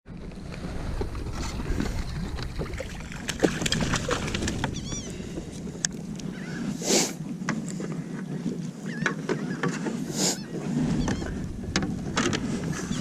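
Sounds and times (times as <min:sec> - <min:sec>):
wind on microphone: 0:00.1 - 0:13.0.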